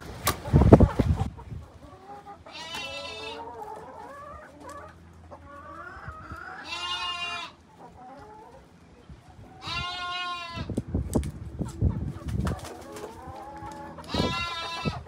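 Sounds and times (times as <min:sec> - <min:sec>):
hens clucking: 0:00.0 - 0:15.0
hens calling: 0:00.5 - 0:15.0.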